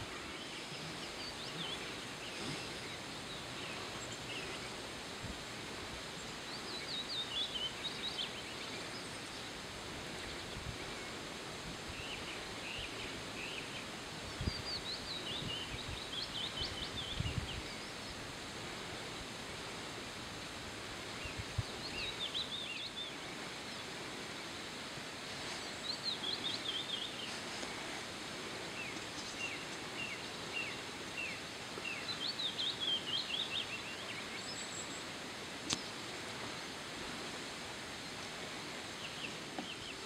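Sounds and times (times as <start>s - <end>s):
small birds chirping: 0.0s - 19.3s, 21.0s - 40.0s
steady background hiss: 0.0s - 40.0s.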